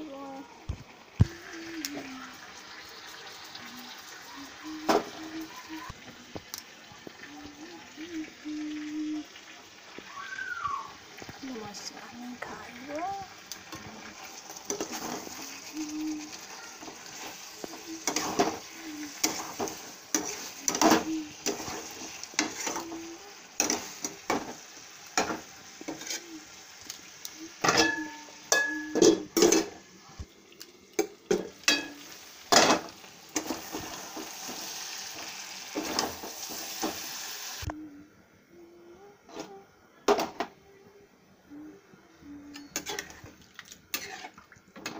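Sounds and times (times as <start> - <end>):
curry sizzling in a pan: 0.0 - 37.7, 42.7 - 44.9.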